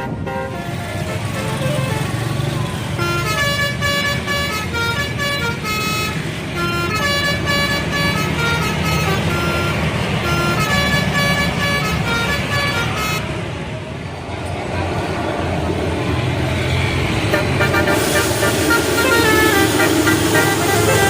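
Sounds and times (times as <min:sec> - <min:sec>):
bus air horn playing a tune: 0:00.0 - 0:13.4, 0:17.3 - 0:21.0
engine and traffic rumble: 0:00.0 - 0:21.0.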